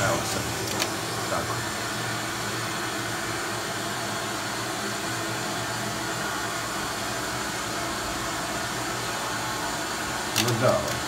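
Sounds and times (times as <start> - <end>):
pump motor whirring: 0.0 - 11.0.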